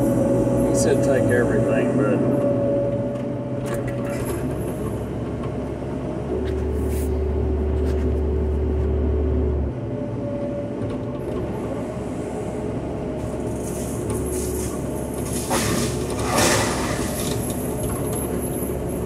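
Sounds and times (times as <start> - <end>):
excavator engine drone: 0.0 - 19.0.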